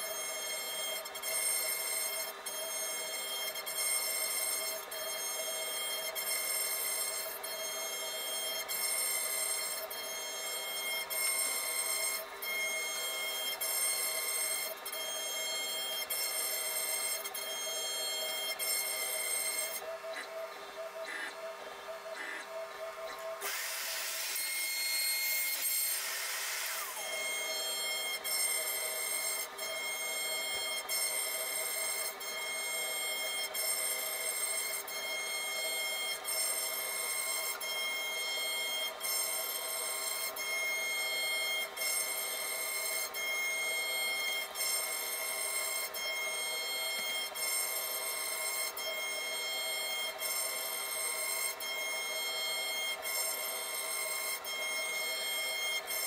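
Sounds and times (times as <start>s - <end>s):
cnc router whining: 0.0s - 56.0s.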